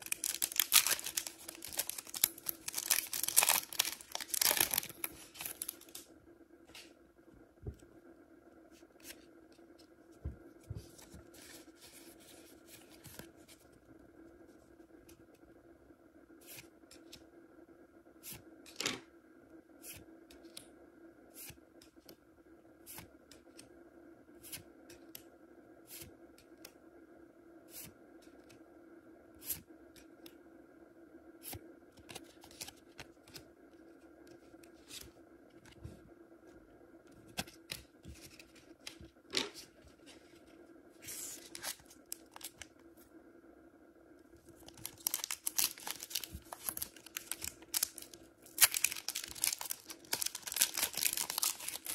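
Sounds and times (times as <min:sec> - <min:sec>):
faint hum: 0:00.0 - 0:51.9.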